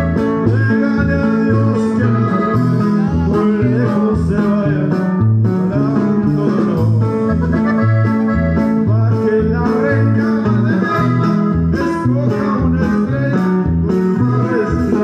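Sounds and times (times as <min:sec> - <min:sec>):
accordion melody: 0:00.0 - 0:15.0
bass alternating two notes: 0:00.0 - 0:15.0
plucked guitar strings: 0:00.0 - 0:15.0.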